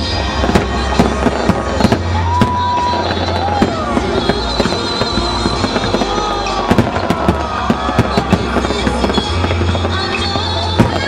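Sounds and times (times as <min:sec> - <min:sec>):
fireworks bangs and cracks: 0:00.0 - 0:11.0
music playing: 0:00.0 - 0:11.0.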